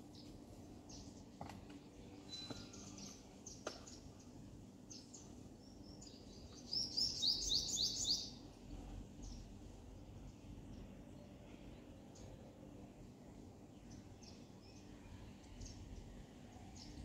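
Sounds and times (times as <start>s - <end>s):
birds chirping: 0.0s - 12.8s, 13.6s - 17.0s
faint steady hum: 0.0s - 17.0s.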